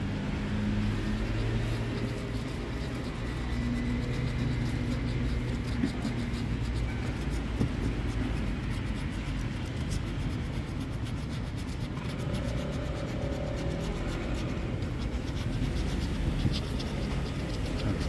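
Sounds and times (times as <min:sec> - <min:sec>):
coin scratching lottery ticket: 0:01.0 - 0:18.0.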